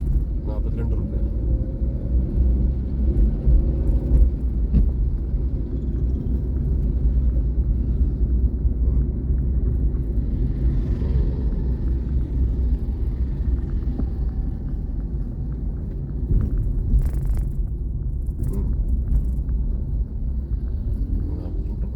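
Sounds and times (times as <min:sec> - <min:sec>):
vehicle engine and road noise: 0:00.0 - 0:21.9.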